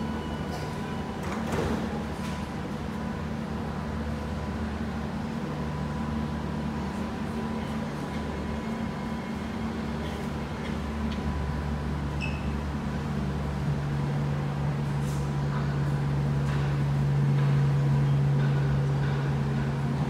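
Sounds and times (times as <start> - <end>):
low electrical hum of train: 0.0 - 20.0.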